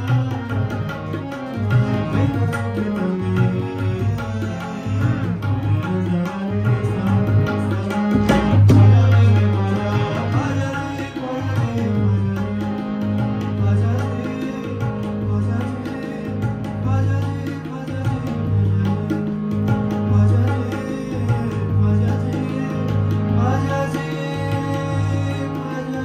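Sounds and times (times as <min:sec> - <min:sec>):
harmonium chords: 0:00.0 - 0:26.0
tabla strokes: 0:00.0 - 0:26.0.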